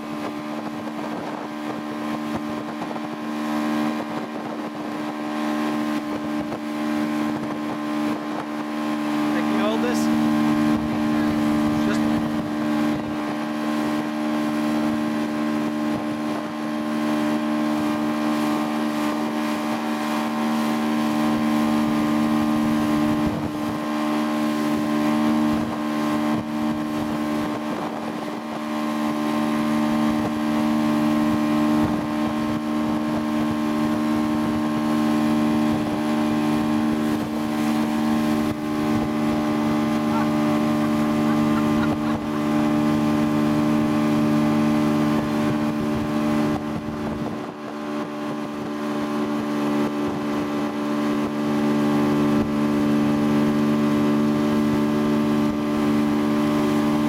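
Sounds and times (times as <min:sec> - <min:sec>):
motorboat engine drone: 0:00.0 - 0:57.0
water rushing from wake: 0:00.0 - 0:57.0.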